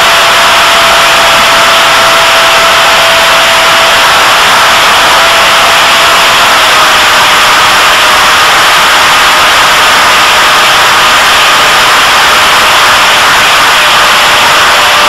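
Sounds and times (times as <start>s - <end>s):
electric motor and propeller whine: 0.0s - 15.0s
rushing wind noise: 0.0s - 15.0s.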